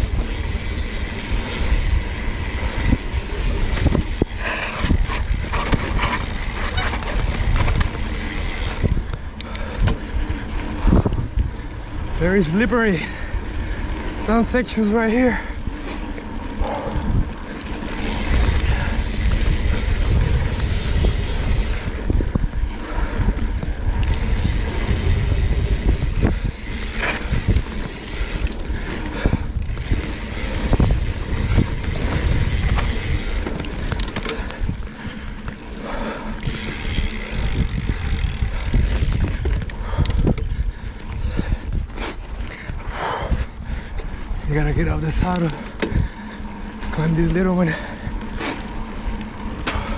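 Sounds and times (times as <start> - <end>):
bike clattering and clicking: 0.0 - 49.9
bike tyres scraping over dirt: 0.0 - 49.9
wind rumbling on microphone: 0.0 - 49.9.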